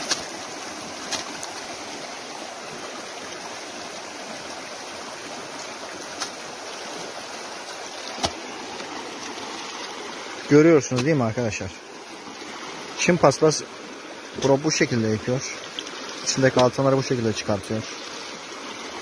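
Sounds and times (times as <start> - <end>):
creek water running: 0.0 - 19.0
water sloshing and pouring: 0.0 - 19.0.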